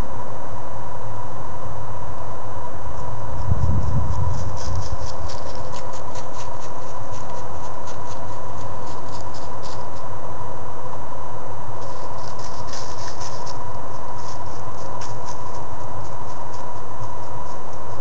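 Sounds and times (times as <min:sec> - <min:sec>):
electronic whine and hiss: 0:00.0 - 0:18.0.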